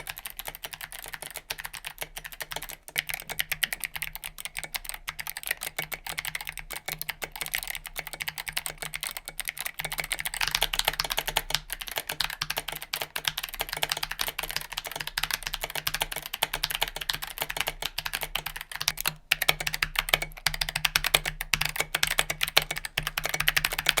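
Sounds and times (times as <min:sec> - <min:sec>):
clicky mechanical keyboard typing: 0:00.0 - 0:24.0.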